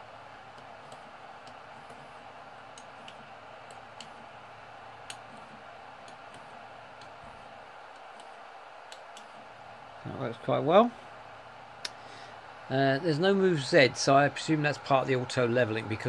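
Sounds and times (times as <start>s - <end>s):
printer fan whirr: 0.0s - 16.0s.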